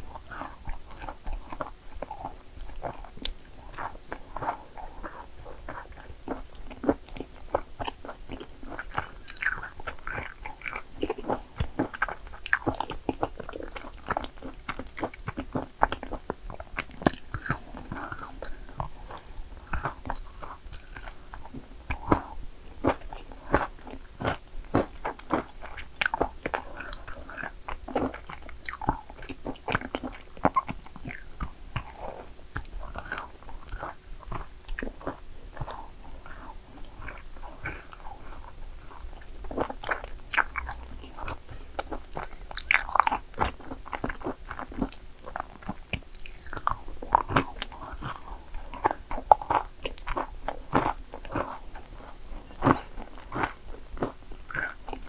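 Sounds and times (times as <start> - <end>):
person crunching cookies: 0.0 - 55.0.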